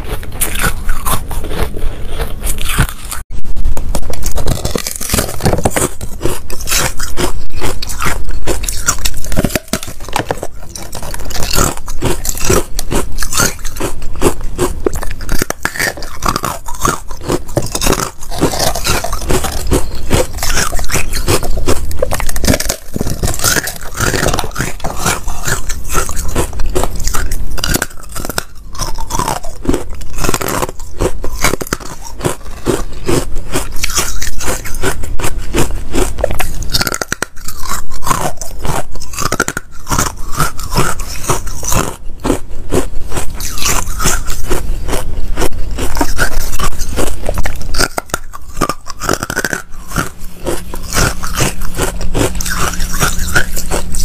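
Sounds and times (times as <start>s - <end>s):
ice crunching while chewed: 0.0s - 54.0s.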